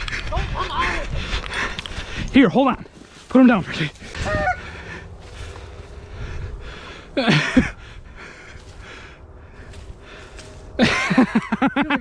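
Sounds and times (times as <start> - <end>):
trampling through dry grass: 0.0 - 11.5.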